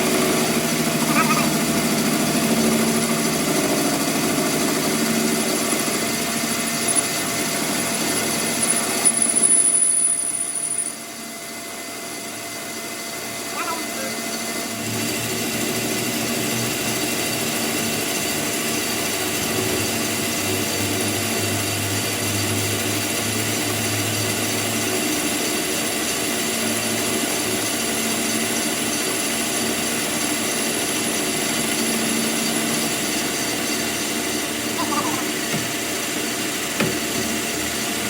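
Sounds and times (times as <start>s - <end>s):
power tool running: 0.0s - 13.4s, 14.2s - 38.0s.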